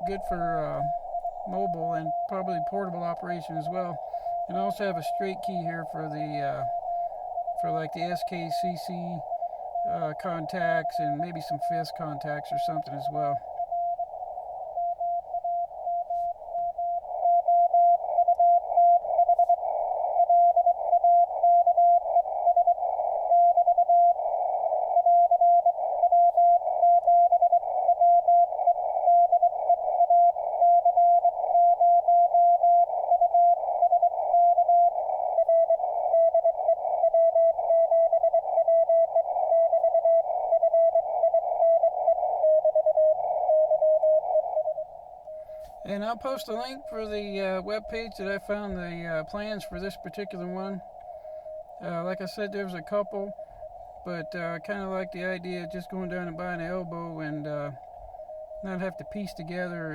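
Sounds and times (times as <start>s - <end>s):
morse code tone beeping: 0.0s - 24.2s, 25.0s - 59.9s.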